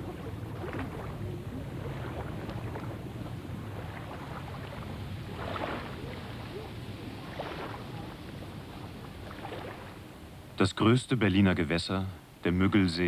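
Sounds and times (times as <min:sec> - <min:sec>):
small waves lapping: 0:00.0 - 0:10.6
wind over water: 0:00.0 - 0:13.0.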